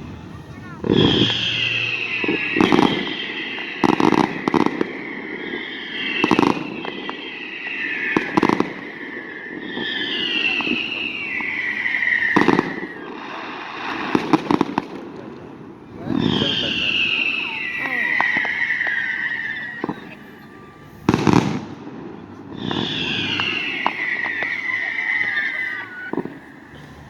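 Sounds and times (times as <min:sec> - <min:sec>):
firework whistles sliding down: 0:00.0 - 0:27.0
fireworks bangs: 0:00.0 - 0:27.0.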